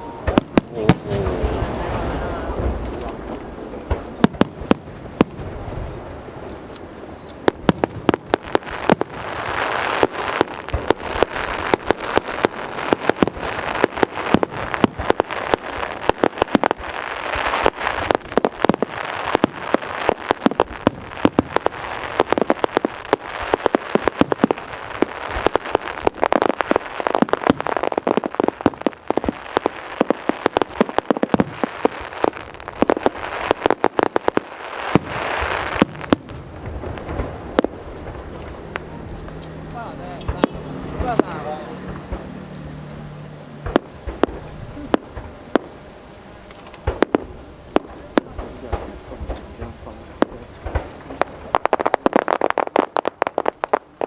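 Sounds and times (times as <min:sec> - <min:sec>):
fireworks bangs and pops: 0:00.0 - 0:54.0
fireworks crackle: 0:00.0 - 0:54.0.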